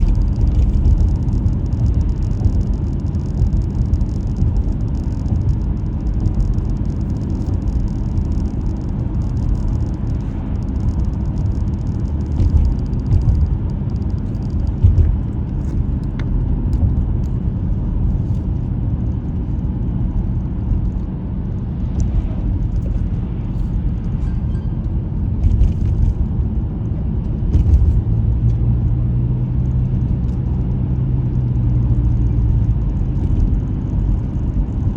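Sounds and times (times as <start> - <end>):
car engine and road noise: 0.0 - 34.9.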